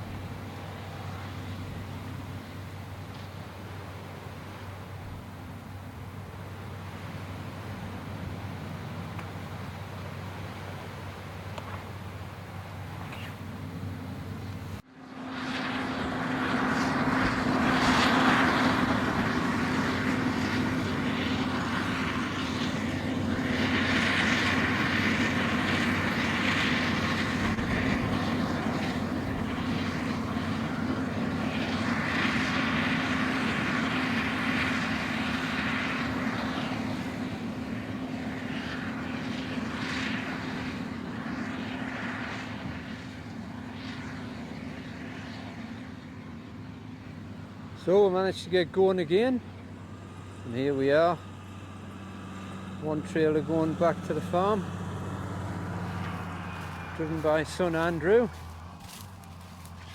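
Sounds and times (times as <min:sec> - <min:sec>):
engine drone: 0:00.0 - 0:59.9.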